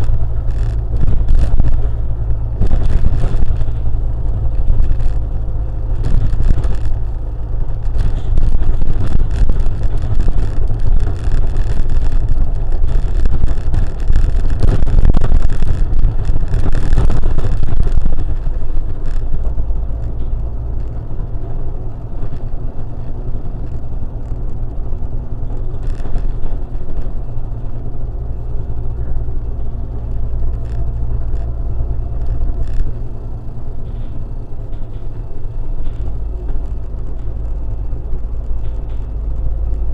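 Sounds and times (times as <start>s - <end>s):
vehicle engine rumble: 0.0s - 39.9s.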